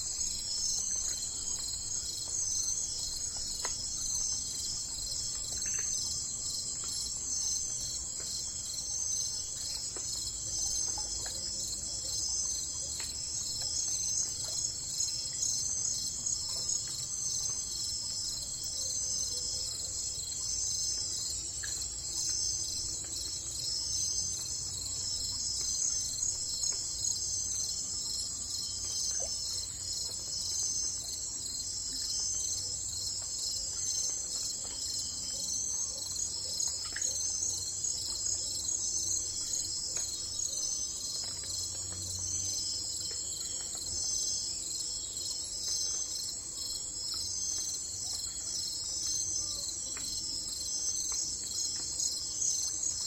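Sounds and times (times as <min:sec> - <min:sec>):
insects trilling: 0:00.1 - 0:53.0.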